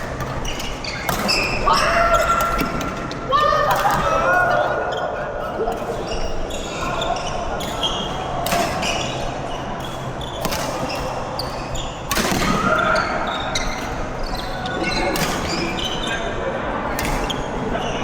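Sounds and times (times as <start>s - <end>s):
shoes squeaking on hall floor: 0.0s - 18.0s.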